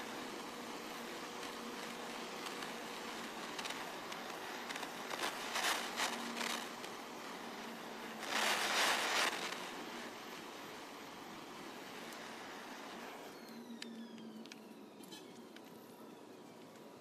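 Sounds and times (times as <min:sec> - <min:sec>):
gas hissing from torch: 0:00.0 - 0:16.0.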